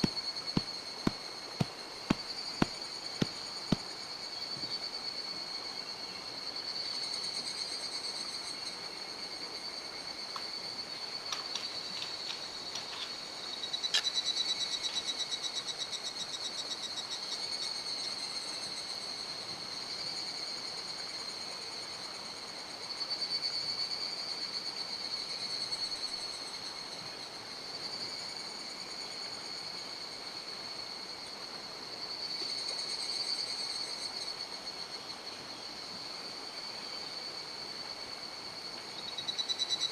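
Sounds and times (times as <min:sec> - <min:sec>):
insects chorus: 0:00.0 - 0:39.9
rapid pulsing insect call: 0:00.0 - 0:39.9.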